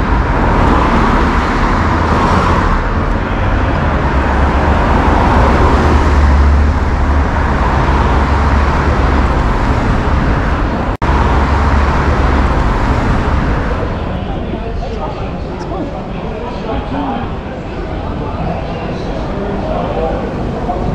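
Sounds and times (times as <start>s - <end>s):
cars passing: 0.0s - 20.9s
low traffic rumble: 0.0s - 20.9s.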